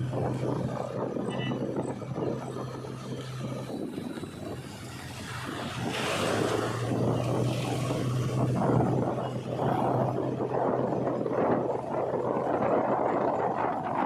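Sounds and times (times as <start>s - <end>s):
rushing noise: 0.0s - 14.0s.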